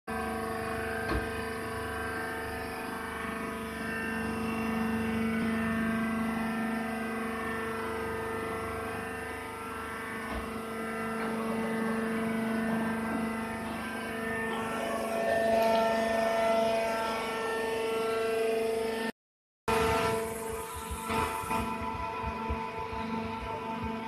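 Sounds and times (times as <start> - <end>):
baler motor and pump humming: 0.1 - 19.1, 19.7 - 24.0.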